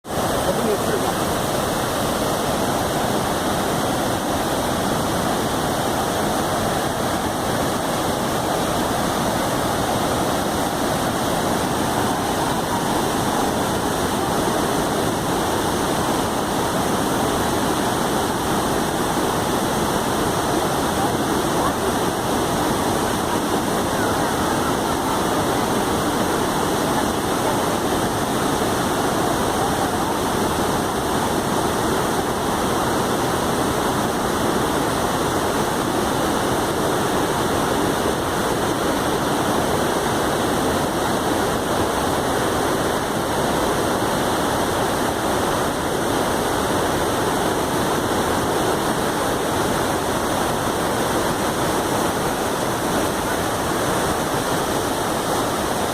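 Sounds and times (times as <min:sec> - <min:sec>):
waterfall pouring and splashing: 0:00.0 - 0:55.9.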